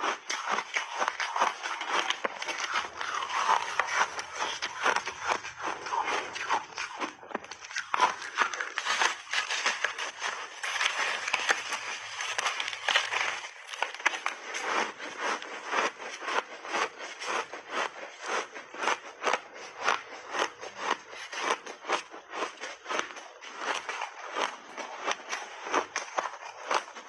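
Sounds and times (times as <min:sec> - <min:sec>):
ice crunching between teeth: 0:00.0 - 0:27.0.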